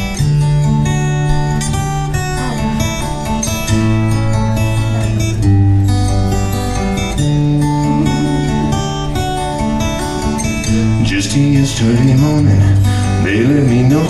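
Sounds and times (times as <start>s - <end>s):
acoustic guitar chords: 0.0s - 14.0s
low bass line: 0.0s - 14.0s.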